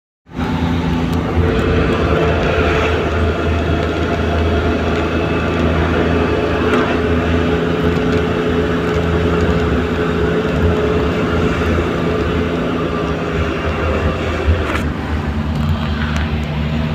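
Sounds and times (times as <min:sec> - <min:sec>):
road noise: 0:00.2 - 0:16.9
vehicle engine drone: 0:00.3 - 0:16.9.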